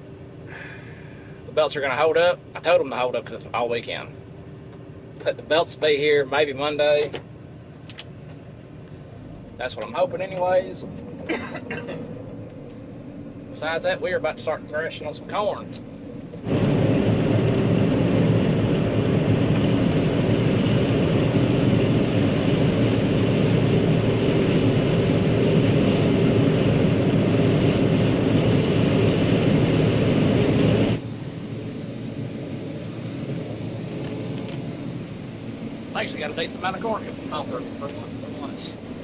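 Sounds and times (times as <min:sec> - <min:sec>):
combine harvester running: 0:00.0 - 0:39.0.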